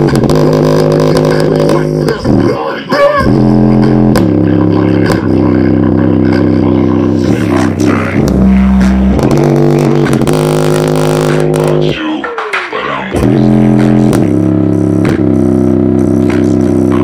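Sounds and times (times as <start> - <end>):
bass-boosted music from speaker: 0.0 - 17.0.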